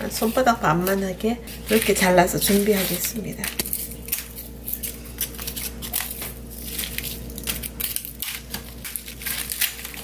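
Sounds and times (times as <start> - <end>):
dry skin crackling: 0.2 - 10.0.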